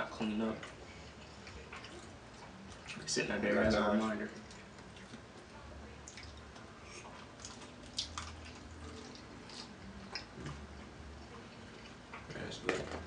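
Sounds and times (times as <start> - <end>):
wet chewing and eating: 0.6 - 3.1, 4.0 - 12.4.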